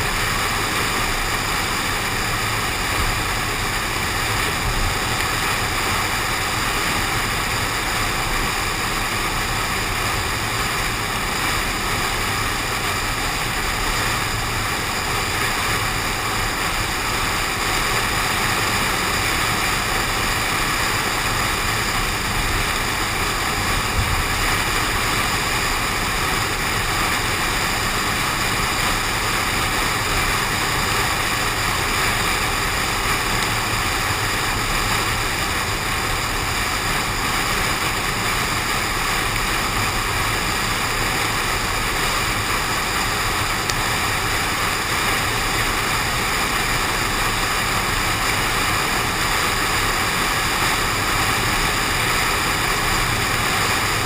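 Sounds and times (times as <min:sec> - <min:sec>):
car driving in rain: 0:00.0 - 0:54.0.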